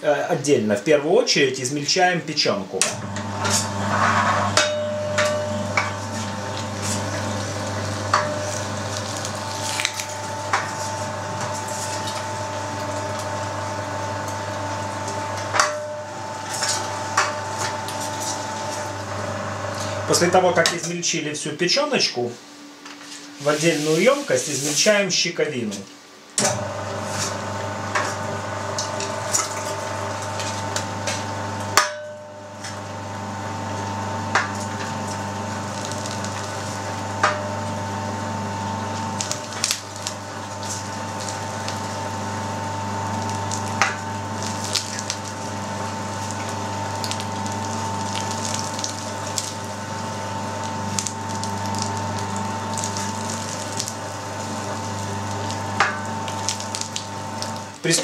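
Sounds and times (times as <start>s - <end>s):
electric meat grinder running: 2.9s - 20.5s, 26.4s - 58.0s.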